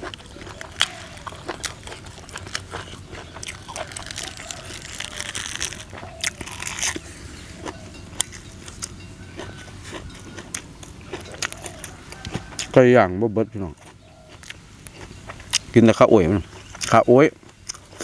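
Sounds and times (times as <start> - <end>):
crunching raw cabbage: 0.0 - 12.8, 13.4 - 18.0.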